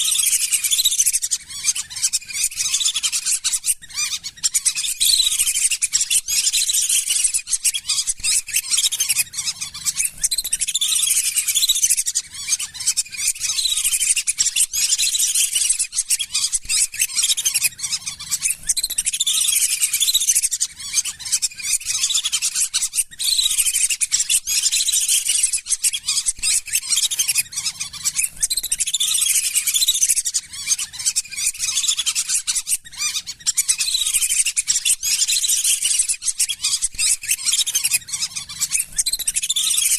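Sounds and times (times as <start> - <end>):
ducks whistling: 0.0 - 39.9.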